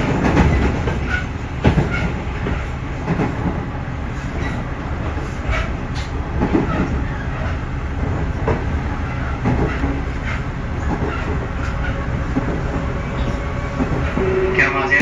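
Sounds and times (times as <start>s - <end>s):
wheels clicking over rails: 0.0s - 14.4s
train rumble on board: 0.0s - 15.0s.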